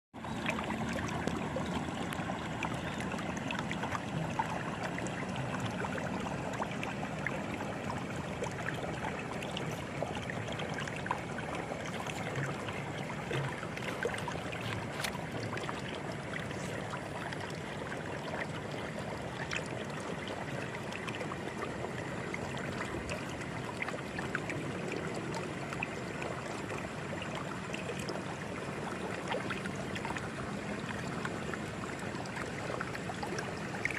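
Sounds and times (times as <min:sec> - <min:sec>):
stream water flowing: 0:00.2 - 0:33.9
water trickling and splashing: 0:00.2 - 0:33.9.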